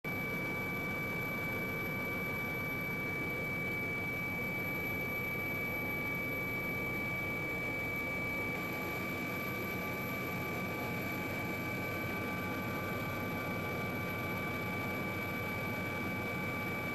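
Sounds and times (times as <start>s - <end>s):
constant high whine: 0.0s - 16.9s.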